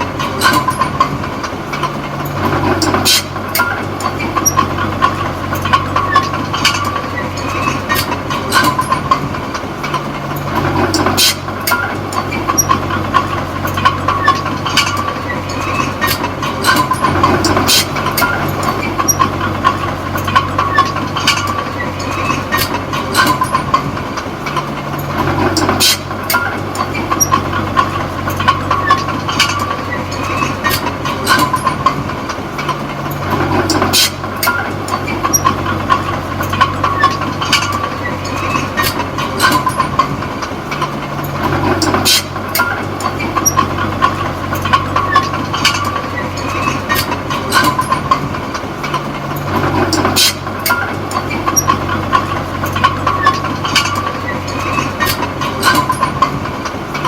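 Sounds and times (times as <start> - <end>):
bulldozer diesel engine: 0.0 - 57.0
steel tracks clanking and squealing: 0.0 - 57.0.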